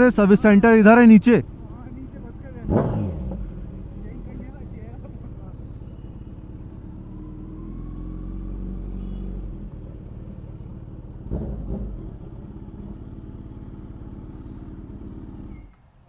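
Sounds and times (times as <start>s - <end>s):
motorcycle engine running: 0.0s - 15.7s.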